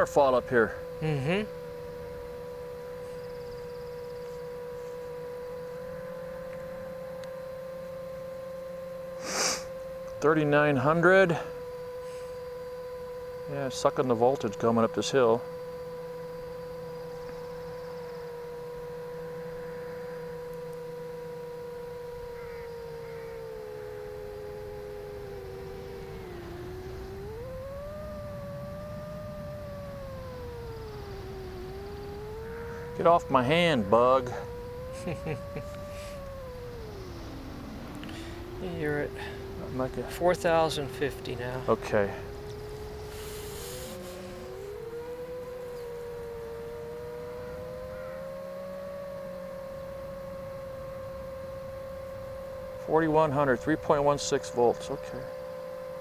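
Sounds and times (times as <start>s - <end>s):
drone motors whining: 0.0s - 56.0s
steady hum: 0.0s - 56.0s.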